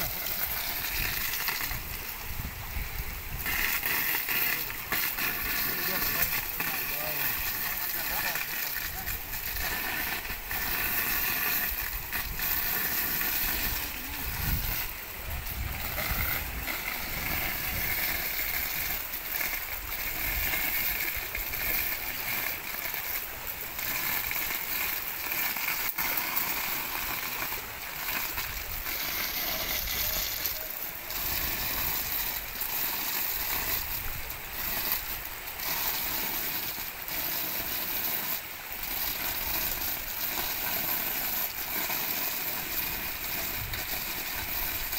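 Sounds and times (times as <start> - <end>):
water rushing from leaking pipe: 0.0 - 44.9.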